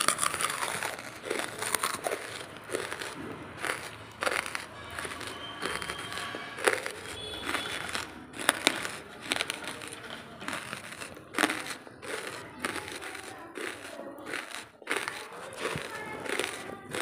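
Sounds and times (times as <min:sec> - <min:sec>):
charcoal crunching: 0:00.0 - 0:17.0.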